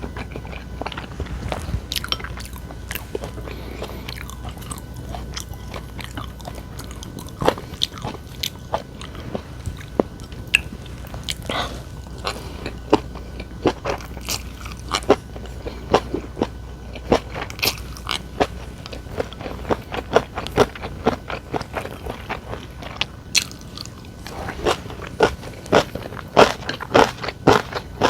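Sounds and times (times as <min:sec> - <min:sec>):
person chewing with crunches: 0:00.0 - 0:28.0.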